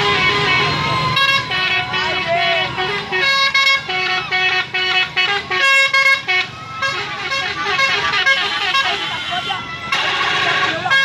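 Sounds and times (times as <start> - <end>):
bus air horn playing tune: 0.0 - 11.0.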